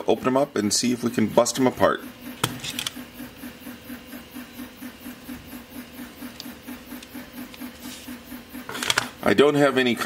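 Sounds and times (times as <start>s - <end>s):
faint pulsing machine noise: 0.0s - 10.0s.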